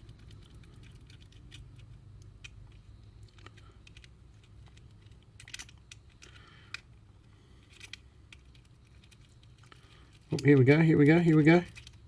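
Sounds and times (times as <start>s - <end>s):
faint low hum: 0.0s - 12.0s
hands handling model locomotive: 0.0s - 12.0s.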